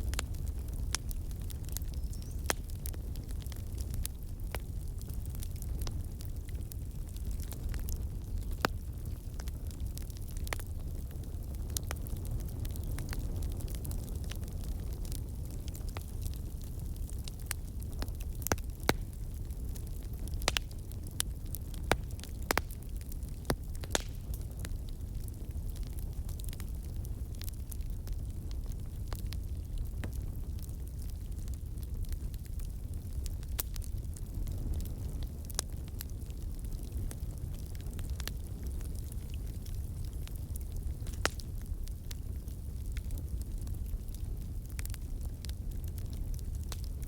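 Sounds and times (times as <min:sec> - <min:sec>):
campfire wood crackling: 0:00.0 - 0:47.0
low rumble of flames: 0:00.0 - 0:47.0.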